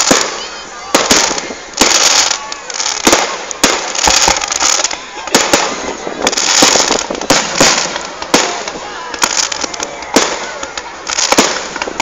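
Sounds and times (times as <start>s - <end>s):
firework crackling and hissing: 0.0s - 12.0s.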